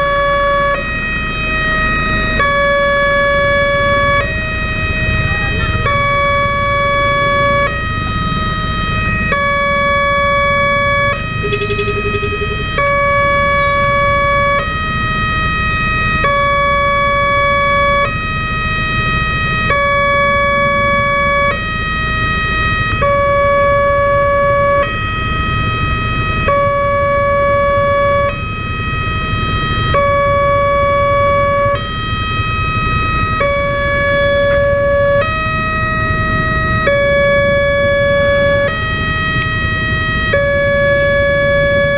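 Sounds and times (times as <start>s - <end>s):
two-tone electronic warning siren: 0.0s - 41.9s.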